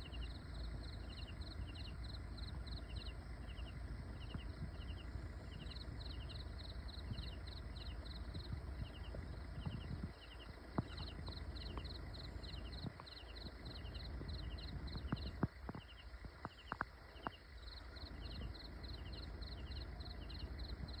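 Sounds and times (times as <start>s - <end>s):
insects chirping: 0.0s - 21.0s
low rumble: 0.0s - 21.0s.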